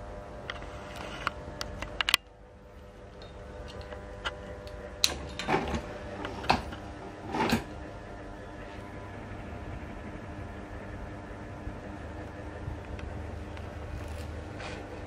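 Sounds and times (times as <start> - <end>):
ceiling fan motor buzz: 0.0 - 15.0.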